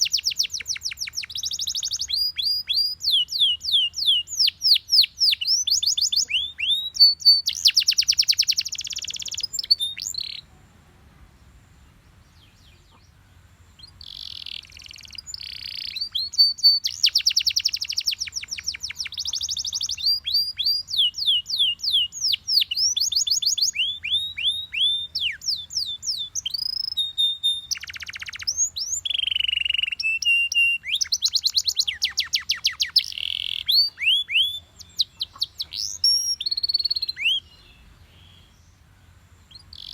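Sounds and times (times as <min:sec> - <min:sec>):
canary singing trills: 0:00.0 - 0:10.5, 0:11.8 - 0:39.9.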